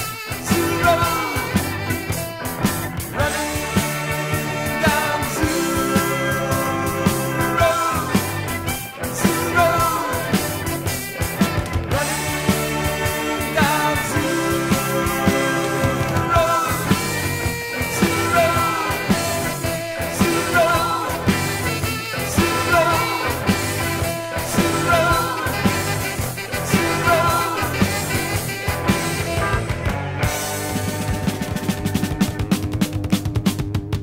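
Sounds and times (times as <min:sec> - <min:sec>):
rock band music: 0:00.0 - 0:34.0.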